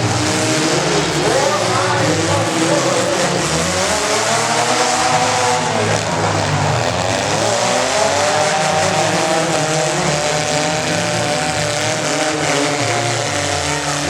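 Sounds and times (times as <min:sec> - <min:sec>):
truck engine revving high: 0:00.0 - 0:14.0.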